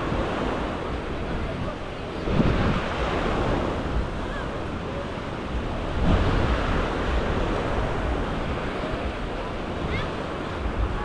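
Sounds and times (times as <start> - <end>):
sea waves on sandy beach: 0.0 - 11.0
wind buffeting microphone: 0.0 - 11.0.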